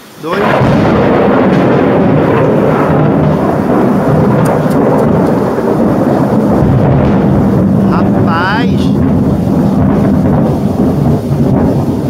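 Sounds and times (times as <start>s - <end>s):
steady rain: 0.0s - 12.0s
thunder rumbling: 0.2s - 12.0s.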